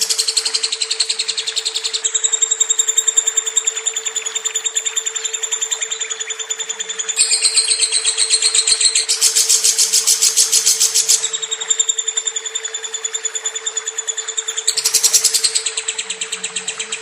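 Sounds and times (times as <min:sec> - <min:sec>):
bird trilling high chirps: 0:00.0 - 0:17.0.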